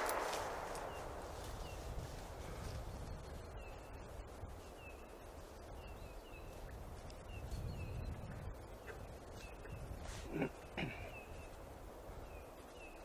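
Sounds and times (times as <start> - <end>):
faint low wind rumble: 0.0 - 13.0.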